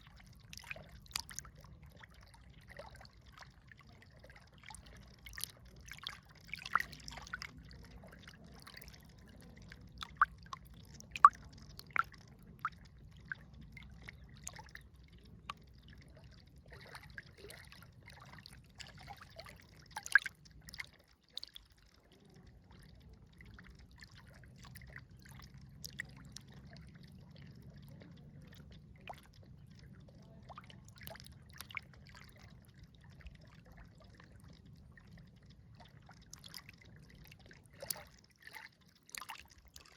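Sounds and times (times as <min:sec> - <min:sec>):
river water trickling: 0:00.0 - 0:39.9
water plinks and splashes: 0:00.0 - 0:39.9.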